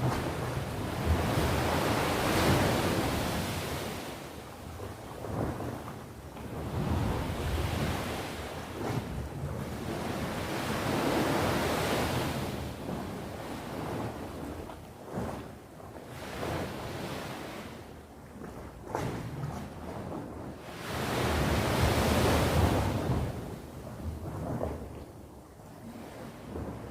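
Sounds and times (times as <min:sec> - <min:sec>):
sea waves breaking on shore: 0:00.0 - 0:26.9.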